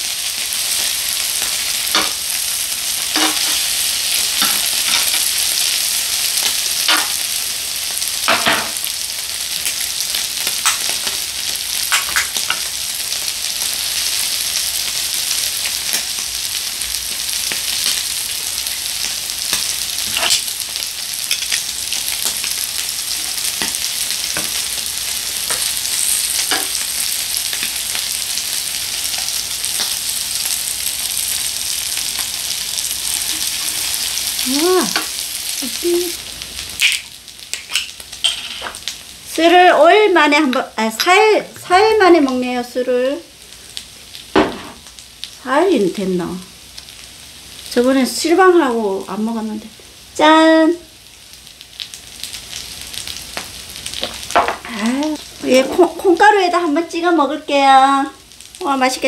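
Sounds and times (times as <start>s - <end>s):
meat sizzling on a grill plate: 0.0s - 59.0s.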